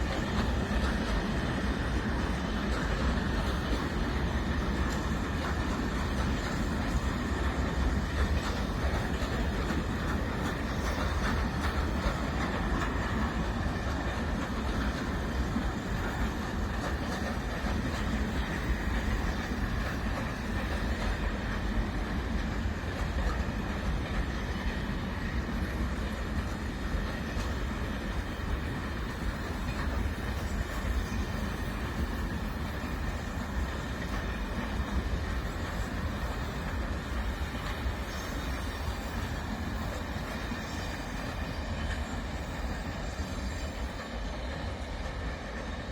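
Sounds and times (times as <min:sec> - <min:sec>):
train wagons rumbling on rails: 0:00.0 - 0:45.9.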